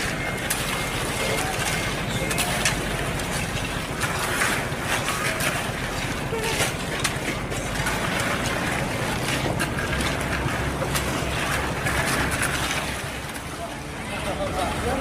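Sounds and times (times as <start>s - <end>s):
broad rushing noise: 0.0s - 15.0s.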